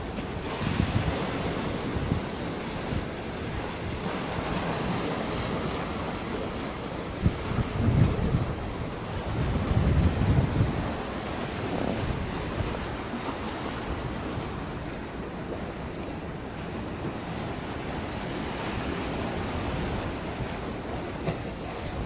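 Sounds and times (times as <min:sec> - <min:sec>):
sea waves: 0:00.0 - 0:22.0
wind buffeting microphone: 0:00.0 - 0:22.0.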